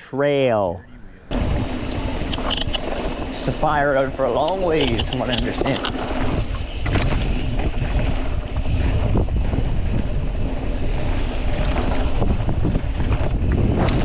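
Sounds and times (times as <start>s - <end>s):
low rumble: 0.0s - 14.0s
wind buffeting microphone: 0.8s - 14.0s
bike knocking on rough ground: 1.3s - 10.2s, 11.1s - 14.0s.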